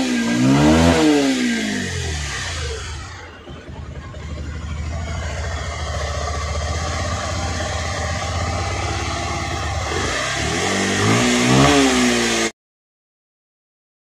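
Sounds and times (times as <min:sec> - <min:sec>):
motorcycle engine idling and revving: 0:00.0 - 0:12.5.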